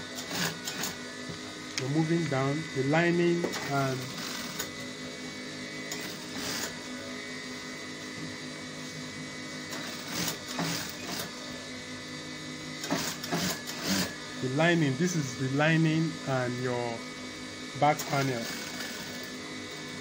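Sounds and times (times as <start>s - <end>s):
sewing machine running: 0.0s - 1.2s, 1.9s - 7.2s, 9.5s - 11.9s, 12.6s - 20.0s.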